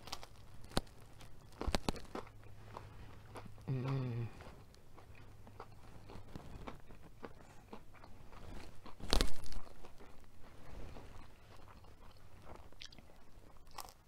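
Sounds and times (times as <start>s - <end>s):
chewing crisp pizza crust: 0.0s - 14.0s.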